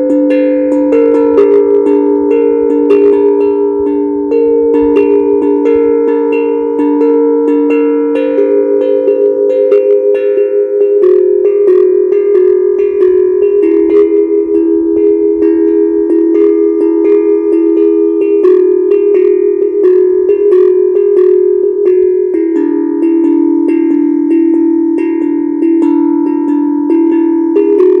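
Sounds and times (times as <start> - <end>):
steel tongue drum notes: 0.0 - 28.0.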